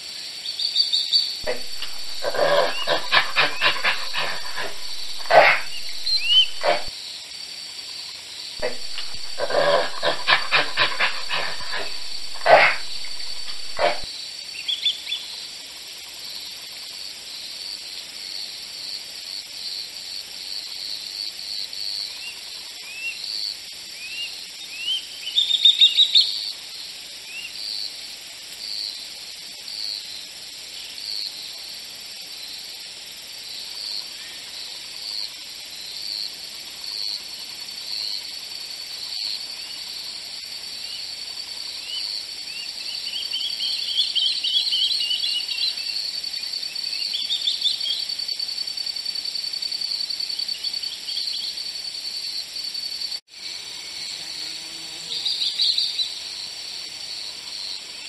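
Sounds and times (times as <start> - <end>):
high-pitched insect hiss: 0.0 - 58.0.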